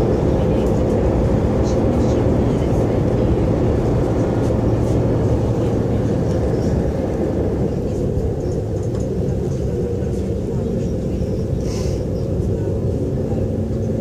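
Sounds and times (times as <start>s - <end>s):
diesel engine hum: 0.0s - 14.0s
train rumbling in motion: 0.0s - 14.0s.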